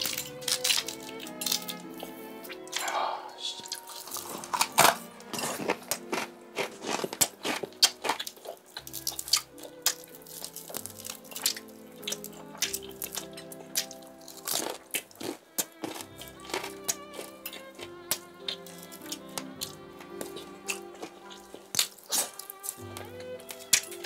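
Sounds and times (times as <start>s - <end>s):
fried chicken crust crunching: 0.0s - 2.9s, 3.6s - 24.0s
soft background music: 0.0s - 24.0s.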